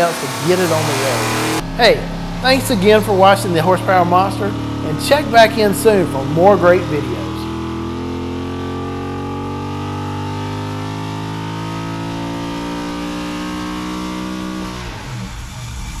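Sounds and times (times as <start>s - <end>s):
engine running on a dyno: 0.0s - 16.0s.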